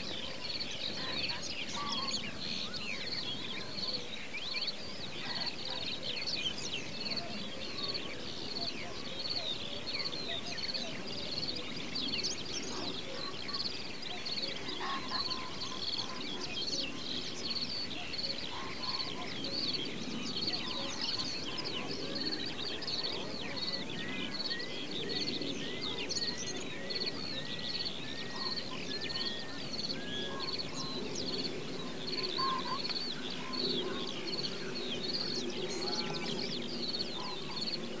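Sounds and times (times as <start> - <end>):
songbirds singing and chirping: 0.0 - 38.0.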